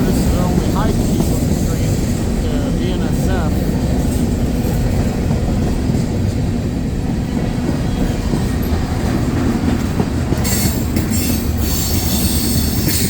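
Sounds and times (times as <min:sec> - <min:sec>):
rumble of train wheels on rail: 0:00.0 - 0:13.0
wheels screeching on rail: 0:00.0 - 0:13.0.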